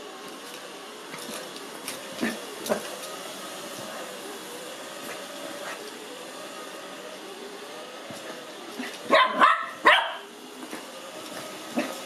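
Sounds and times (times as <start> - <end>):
robot vacuum motor whirring: 0.0 - 12.0.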